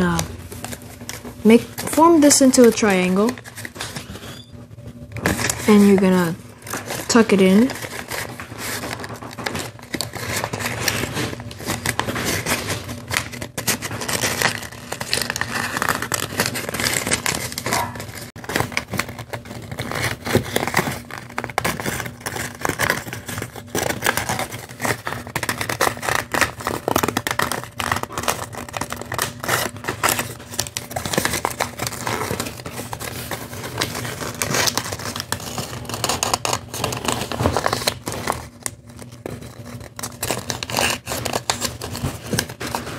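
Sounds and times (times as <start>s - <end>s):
paper rustling and crinkling: 0.0s - 4.3s, 5.0s - 42.9s.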